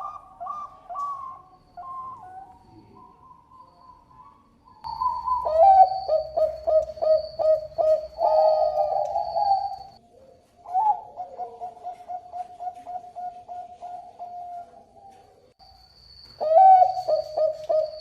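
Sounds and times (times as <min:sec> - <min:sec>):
dove cooing: 0:00.0 - 0:15.5, 0:16.4 - 0:18.0.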